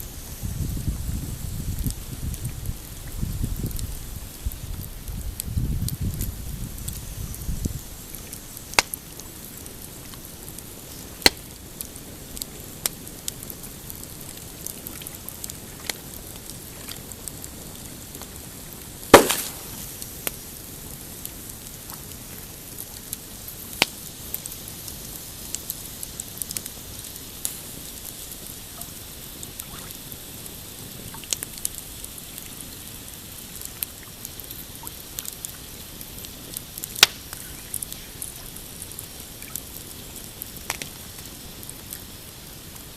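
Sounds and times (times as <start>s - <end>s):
campfire crackling and popping: 0.0s - 42.9s
faint steady hiss: 0.0s - 42.9s.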